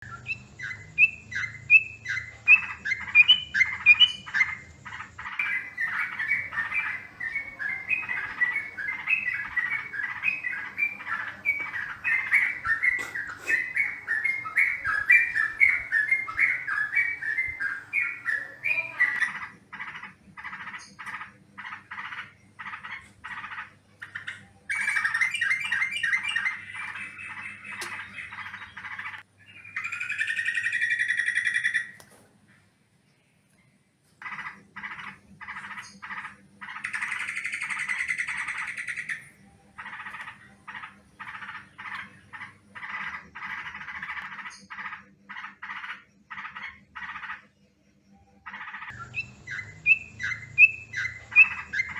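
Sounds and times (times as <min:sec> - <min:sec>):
bird chattering calls: 0:02.5 - 0:31.9, 0:34.2 - 0:47.5, 0:48.5 - 0:51.9.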